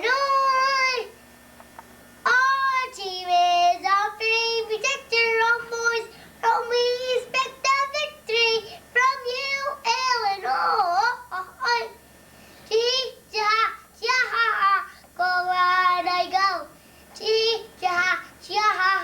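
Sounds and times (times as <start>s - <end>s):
child singing unaccompanied: 0.0s - 1.2s, 2.2s - 12.0s, 12.7s - 19.0s.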